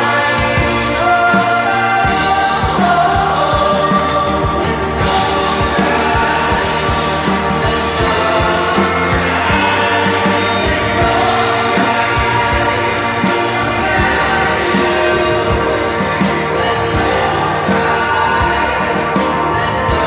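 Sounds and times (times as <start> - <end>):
drum beat: 0.0 - 20.0
indie pop instrumental music: 0.0 - 20.0.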